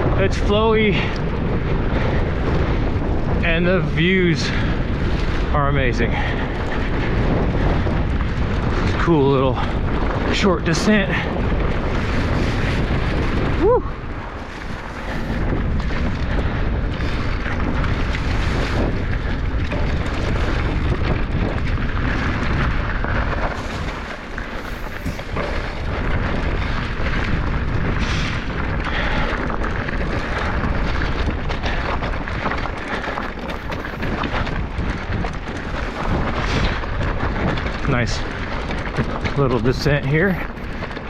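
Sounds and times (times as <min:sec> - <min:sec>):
bike rattling: 0:00.0 - 0:41.0
bike tyres rolling over dirt: 0:00.0 - 0:41.0
wind rumbling on microphone: 0:00.0 - 0:41.0.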